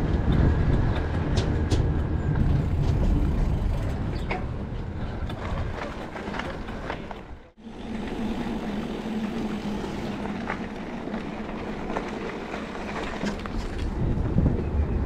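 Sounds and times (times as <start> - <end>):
electric bike motor hum: 0.0 - 15.0
rough riding noise: 0.0 - 15.0.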